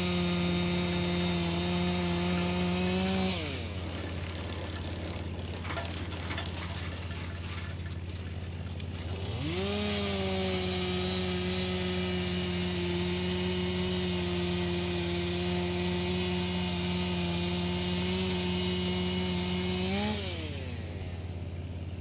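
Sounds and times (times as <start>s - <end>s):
wood crackling being chipped: 0.0s - 21.9s
wood chipper whining: 0.0s - 22.0s.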